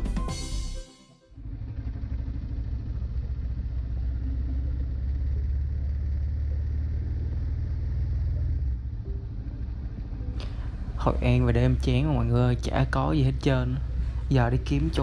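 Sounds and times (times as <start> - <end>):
motorcycle riding at low revs: 1.4 - 15.0.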